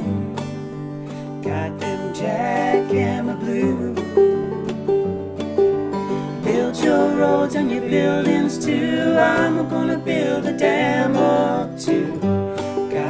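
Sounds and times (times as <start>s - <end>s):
person singing: 0.0s - 0.7s, 1.3s - 5.0s, 6.4s - 13.0s
acoustic guitars and banjo playing: 0.0s - 13.0s.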